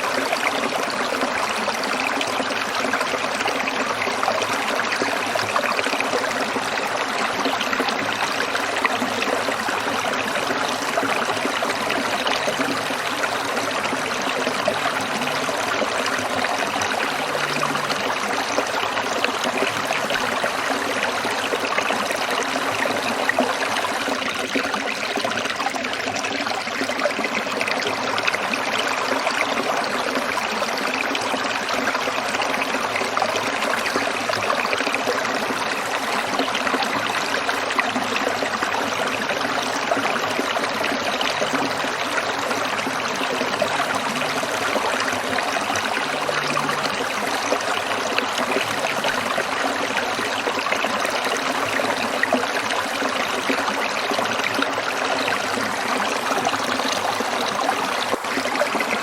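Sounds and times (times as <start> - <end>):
small stream trickling: 0.0 - 59.0.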